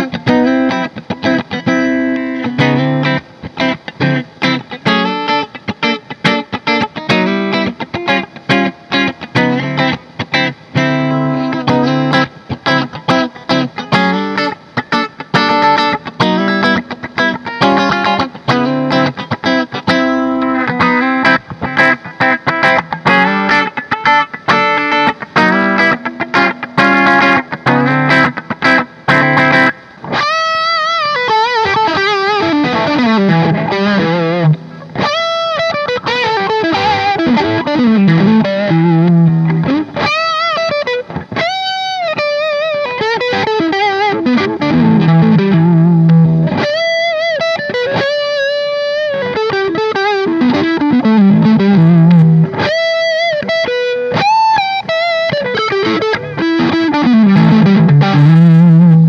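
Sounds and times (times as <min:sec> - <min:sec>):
distorted electric guitar lead lines: 0:00.0 - 0:59.0.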